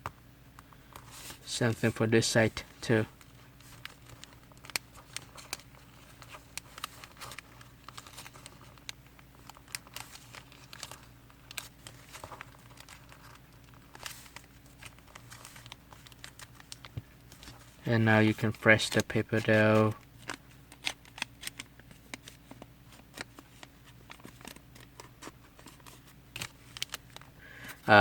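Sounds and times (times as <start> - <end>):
low steady hum: 0.0 - 28.0
paper crinkling and ticking: 0.9 - 28.0.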